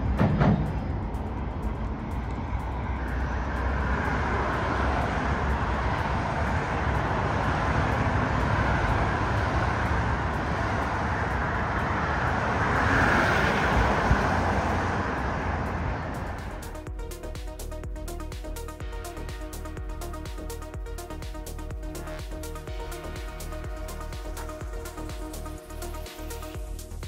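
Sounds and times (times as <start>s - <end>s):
distant passenger train: 0.0s - 26.6s
road traffic: 0.0s - 27.0s
wind: 0.0s - 27.0s.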